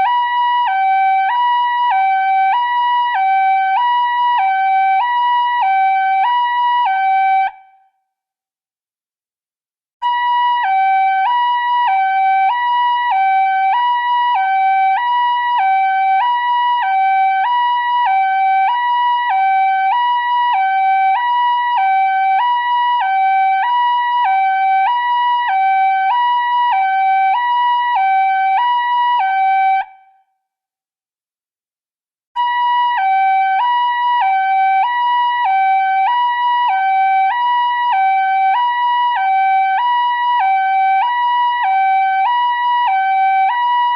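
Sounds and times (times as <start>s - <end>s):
two-tone emergency alert alarm: 0.0s - 7.8s, 10.0s - 30.3s, 32.4s - 43.9s.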